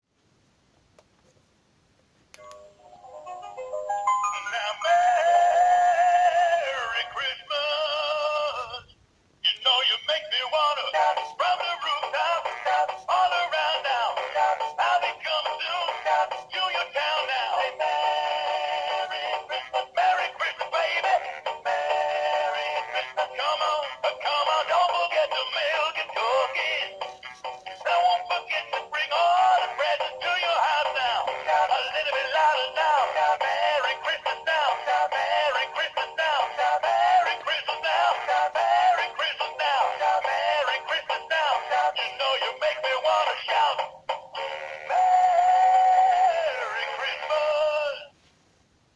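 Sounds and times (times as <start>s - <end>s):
toy singing through small speaker: 3.5s - 48.1s.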